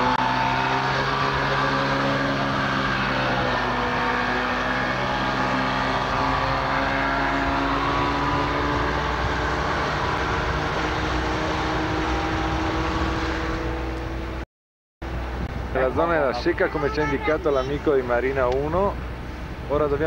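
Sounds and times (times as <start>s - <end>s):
motorboat engine droning: 0.0s - 14.4s, 15.0s - 20.0s.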